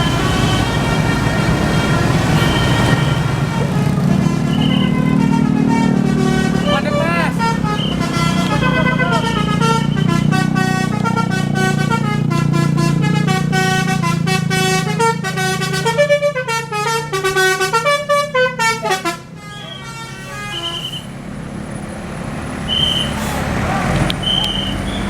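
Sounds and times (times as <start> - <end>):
low engine drone: 0.0 - 21.0
bus air horn melody: 0.0 - 21.2.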